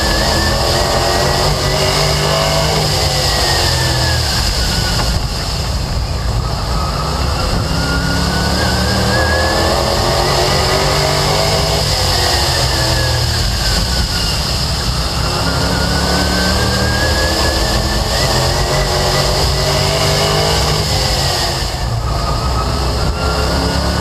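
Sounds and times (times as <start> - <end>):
race car engine at speed: 0.0 - 24.0.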